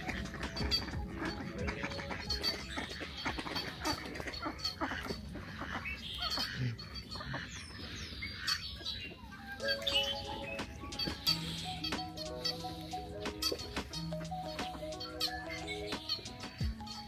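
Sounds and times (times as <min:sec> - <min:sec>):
ducks and geese calling: 0:00.0 - 0:17.0
high bird chirps: 0:00.0 - 0:17.0.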